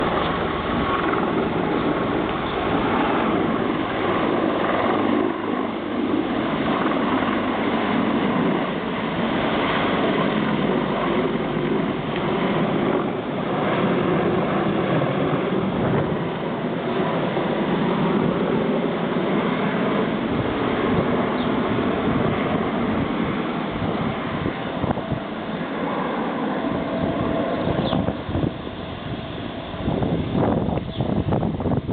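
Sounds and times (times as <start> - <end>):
helicopter running: 0.0 - 31.9.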